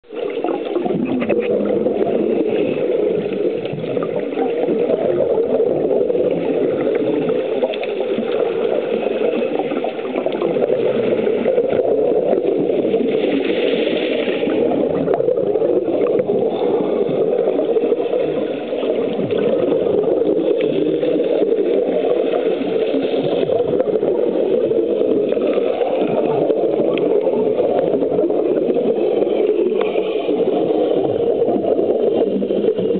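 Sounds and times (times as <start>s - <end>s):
muffled underwater rushing: 0.0s - 32.9s
regulator bubbles hissing: 0.0s - 32.9s.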